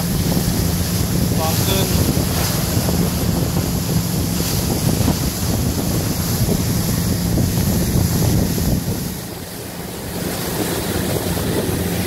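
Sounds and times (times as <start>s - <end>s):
motorboat engine droning: 0.0s - 12.0s
water splashing along hull: 0.0s - 12.0s
wind buffeting microphone: 0.0s - 12.0s.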